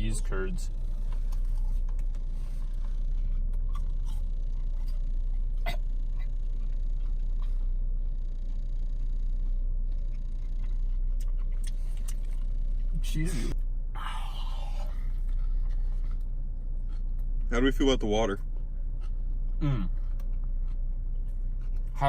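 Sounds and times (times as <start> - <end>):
car idling rumble: 0.0 - 22.0.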